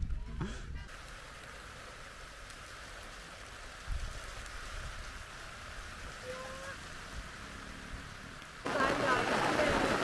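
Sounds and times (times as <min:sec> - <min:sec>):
rain hissing on metal stove: 0:00.1 - 0:10.0.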